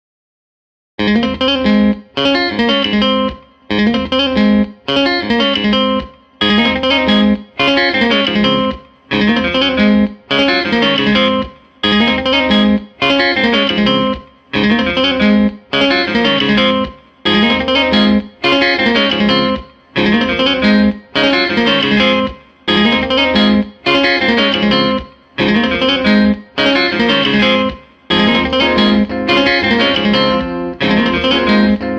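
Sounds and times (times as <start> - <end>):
electric guitar music: 1.0 - 31.9.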